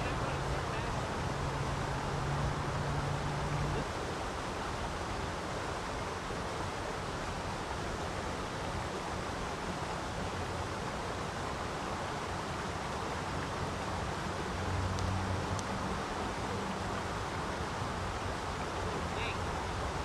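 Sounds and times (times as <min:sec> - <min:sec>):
water rushing through dam: 0:00.0 - 0:20.0.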